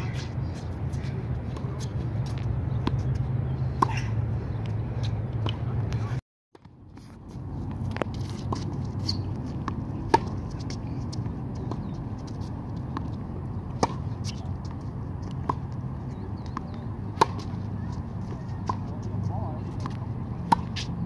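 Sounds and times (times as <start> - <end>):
racket hitting tennis ball: 0.9 - 4.3, 5.0 - 20.9.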